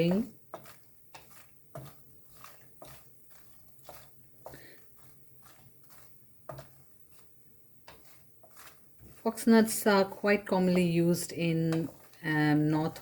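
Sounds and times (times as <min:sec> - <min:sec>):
spoon scraping in pan: 0:00.0 - 0:13.0.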